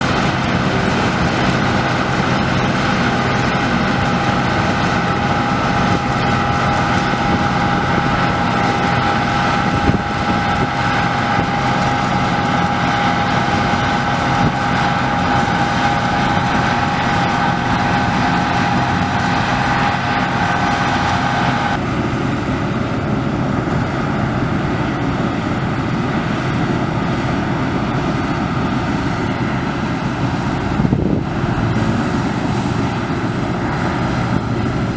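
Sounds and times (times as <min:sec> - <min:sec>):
combine harvester drone: 0:00.0 - 0:34.9
high whine: 0:00.0 - 0:34.9.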